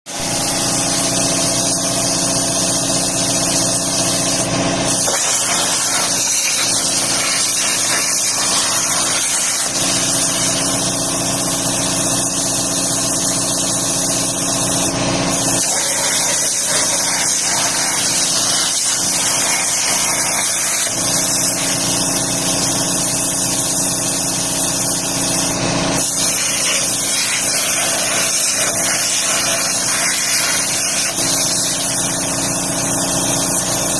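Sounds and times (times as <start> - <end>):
plasma cutter hissing: 0.1 - 33.9.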